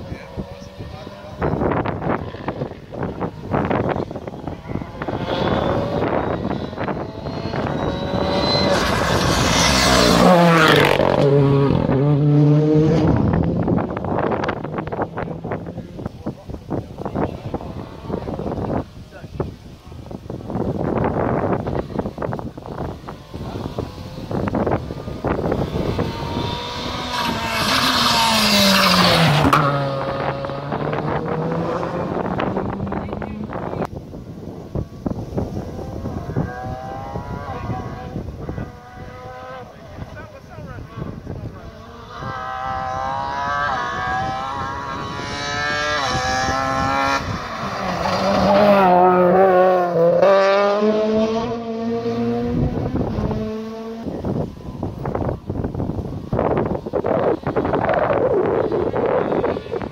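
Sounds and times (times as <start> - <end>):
rally car engine passing: 0.0 - 16.3, 20.5 - 59.9.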